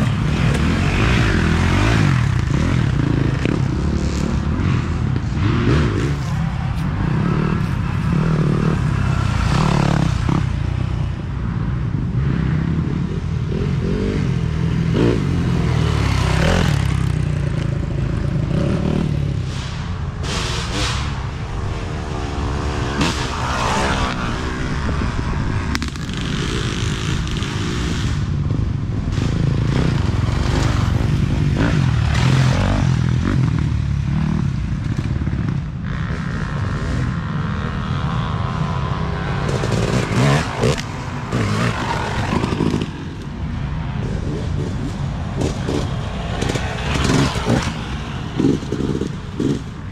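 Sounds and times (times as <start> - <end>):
dirt bike engines revving: 0.0 - 49.9.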